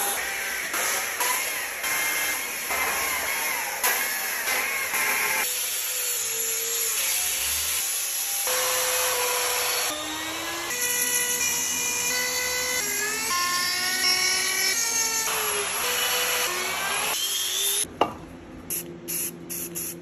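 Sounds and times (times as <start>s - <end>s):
rotary tools whining into wood: 0.0s - 17.9s.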